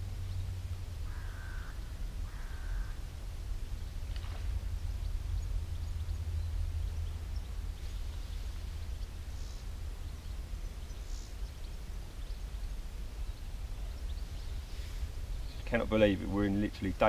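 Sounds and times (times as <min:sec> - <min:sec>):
bird calls: 0:00.0 - 0:17.0
steady low rumble: 0:00.0 - 0:17.0.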